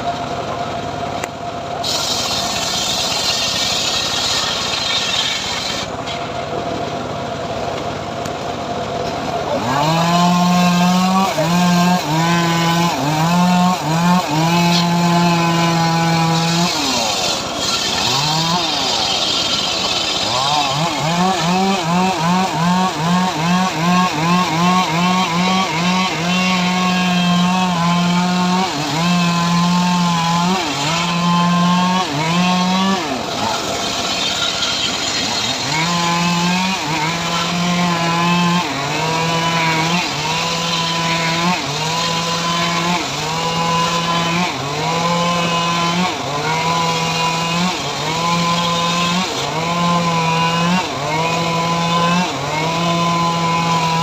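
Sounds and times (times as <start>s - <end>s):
small engine saw cutting wood: 1.2s - 54.0s.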